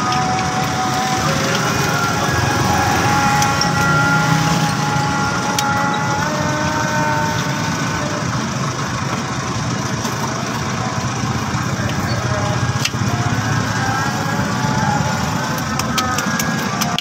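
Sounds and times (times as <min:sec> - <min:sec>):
machine droning and whining: 0:00.0 - 0:17.0.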